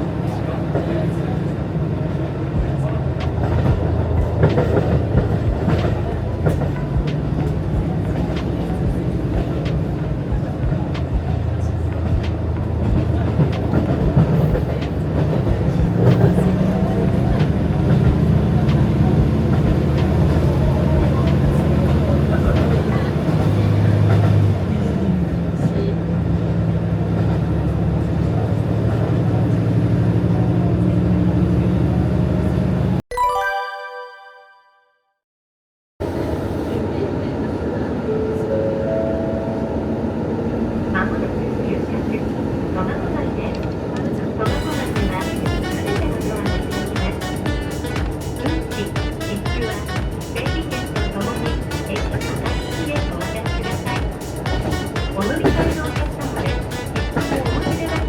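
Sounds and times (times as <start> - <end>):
diesel railcar rumble: 0.0 - 33.0, 36.0 - 58.0.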